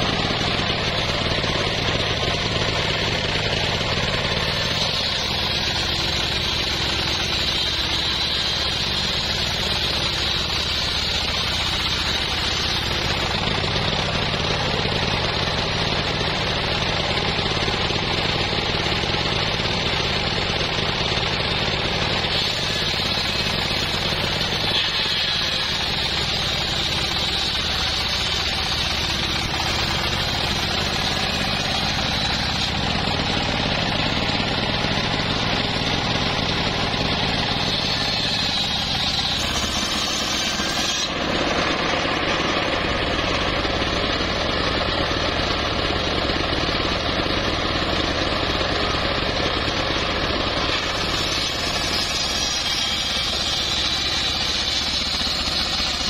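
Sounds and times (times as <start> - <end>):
saw blade whining in wood: 0.0 - 56.0
sawmill machine drone: 0.0 - 56.0.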